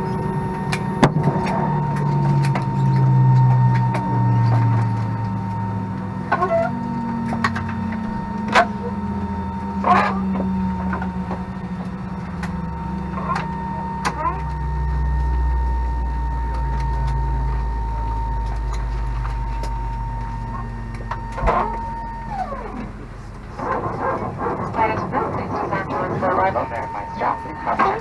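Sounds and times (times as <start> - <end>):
aircraft engine and cabin hum: 0.0 - 28.0
deep rumble: 0.0 - 28.0.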